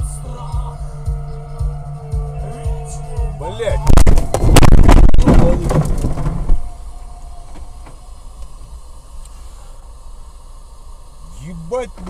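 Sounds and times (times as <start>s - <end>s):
road and engine noise: 0.0s - 12.0s
lorry scraping against car: 0.2s - 10.2s.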